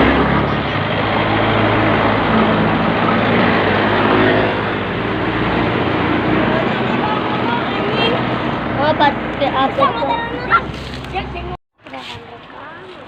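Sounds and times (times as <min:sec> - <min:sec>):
truck engine humming: 0:00.0 - 0:11.6
road noise: 0:00.0 - 0:13.0.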